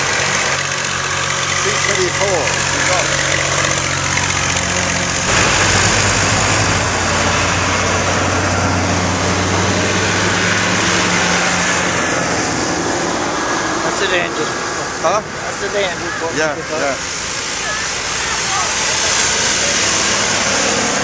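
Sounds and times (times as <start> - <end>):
tractor engines running: 0.0 - 21.0.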